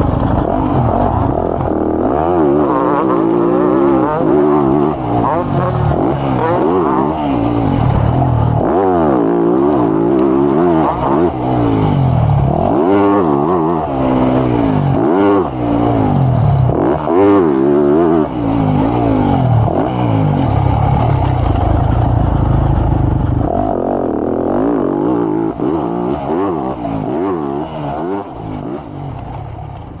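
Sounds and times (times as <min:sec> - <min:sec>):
motocross bike engine revving: 0:00.0 - 0:30.0.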